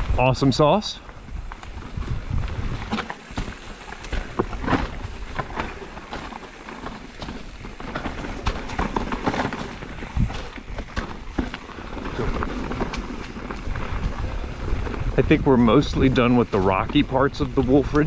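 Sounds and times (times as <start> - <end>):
bike tyres knocking on rocks: 1.1 - 18.0.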